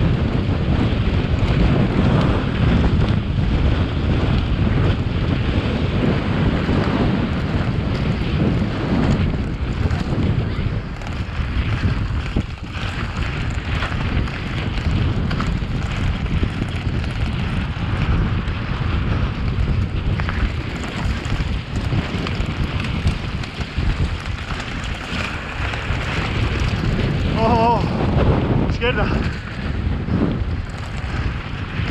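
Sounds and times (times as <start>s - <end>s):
mountain bike rattling over rocks: 0.0s - 31.9s
wind rushing over microphone: 0.0s - 31.9s.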